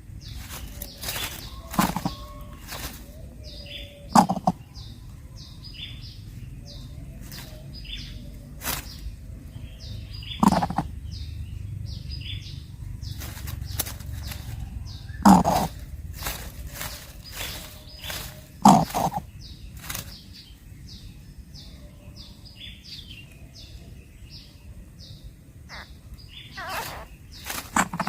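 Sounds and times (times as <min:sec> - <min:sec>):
harsh bird calls: 0:00.0 - 0:28.0.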